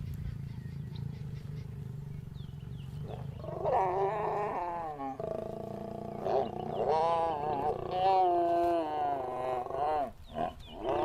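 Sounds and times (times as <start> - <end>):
lion calling: 0.1 - 11.0.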